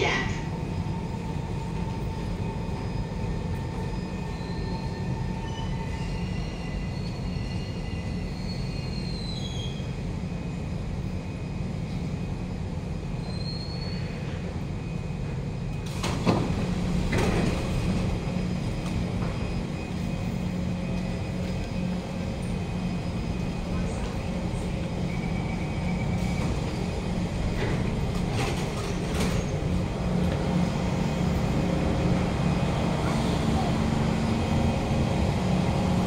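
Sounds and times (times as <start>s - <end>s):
train low rumble: 0.0s - 36.0s.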